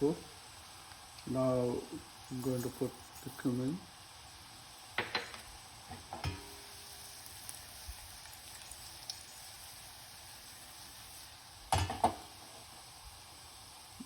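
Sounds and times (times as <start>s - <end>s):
ghee sizzling in a pan: 0.0s - 14.0s.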